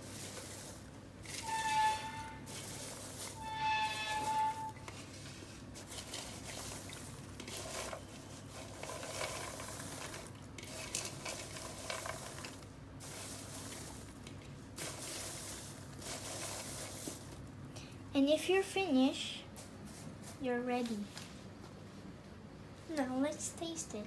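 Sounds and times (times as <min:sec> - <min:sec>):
popcorn rustling in a pan: 0:00.0 - 0:22.2.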